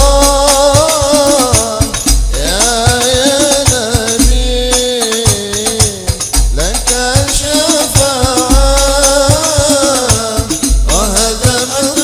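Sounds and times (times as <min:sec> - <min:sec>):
frame drums slapping and booming: 0:00.0 - 0:11.9
person singing devotional song: 0:00.0 - 0:12.0.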